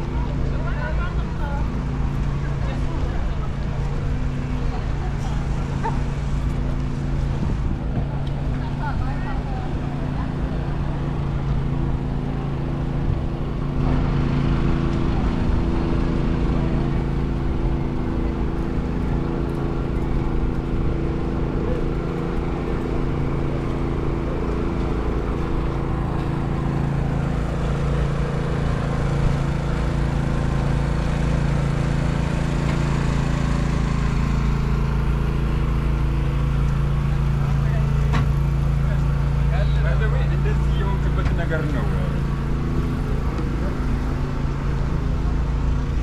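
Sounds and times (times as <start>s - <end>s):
faint voices of passers-by: 0.0s - 46.0s
low mechanical drone: 0.0s - 46.0s.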